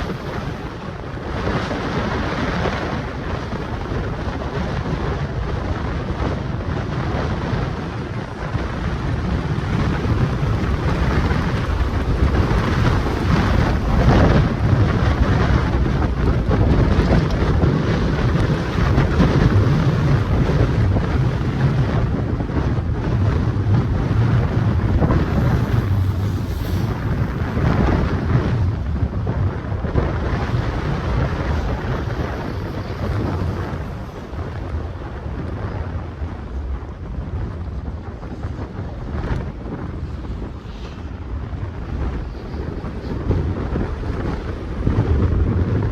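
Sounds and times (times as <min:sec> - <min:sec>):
gusty wind buffeting microphone: 0:00.0 - 0:45.9.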